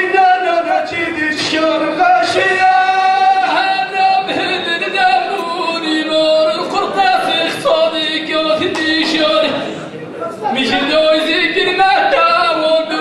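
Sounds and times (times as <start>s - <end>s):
man singing: 0.0s - 9.8s, 10.4s - 13.0s.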